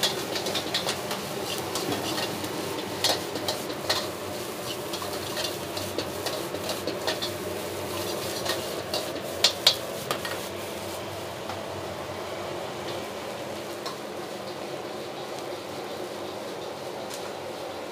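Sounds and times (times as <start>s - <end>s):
food sizzling: 0.0s - 17.5s.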